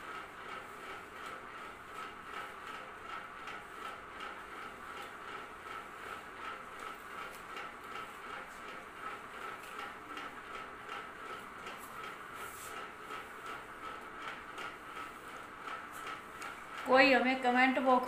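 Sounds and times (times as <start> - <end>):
ceiling fan whirring: 0.0 - 18.0.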